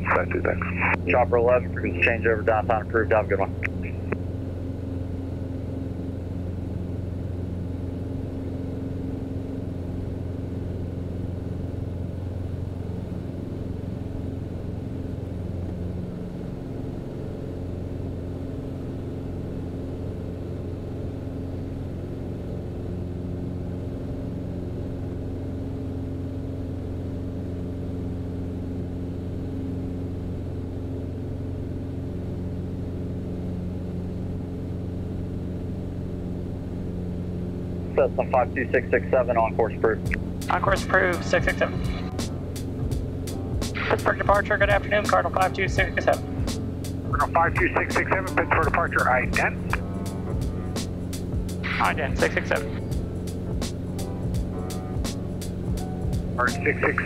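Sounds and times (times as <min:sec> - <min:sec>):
small airplane engine droning: 0:00.0 - 0:57.0.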